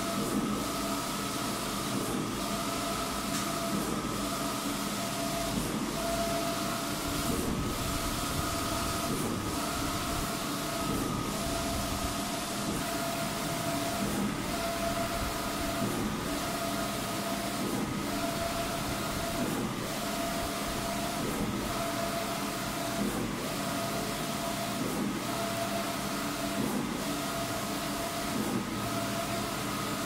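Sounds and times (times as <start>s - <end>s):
printer carriage whine: 0.0s - 30.0s.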